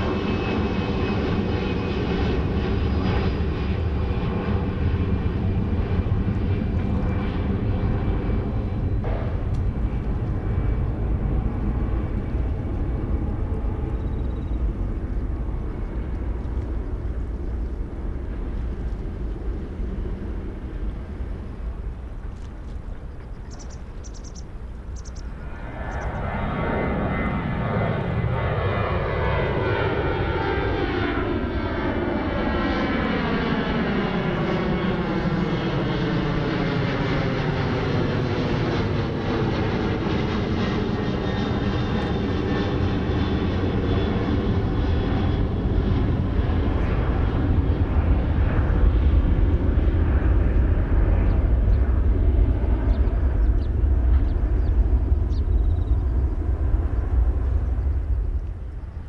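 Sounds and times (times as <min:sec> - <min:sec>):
jet airliner taking off: 0:00.0 - 0:59.0.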